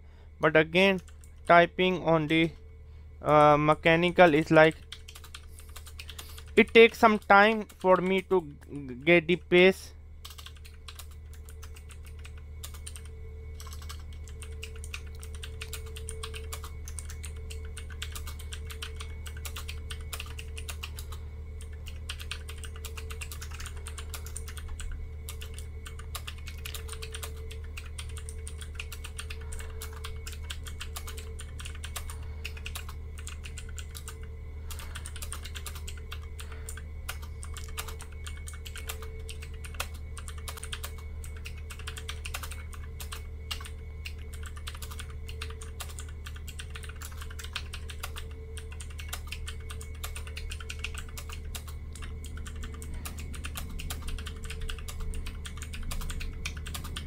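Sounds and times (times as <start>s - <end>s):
steady low hum: 0.0s - 57.0s
mechanical keyboard typing: 4.2s - 8.3s, 10.2s - 57.0s.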